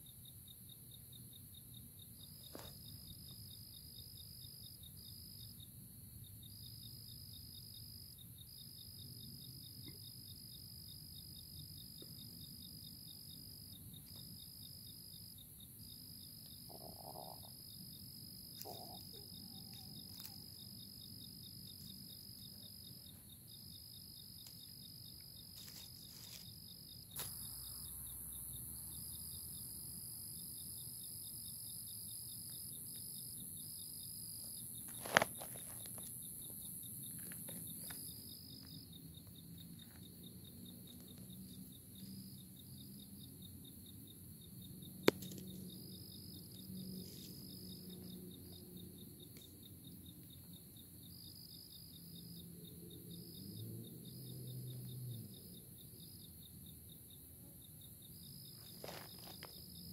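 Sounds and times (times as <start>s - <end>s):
background hiss: 0.0s - 52.4s
crickets trilling: 0.0s - 59.9s.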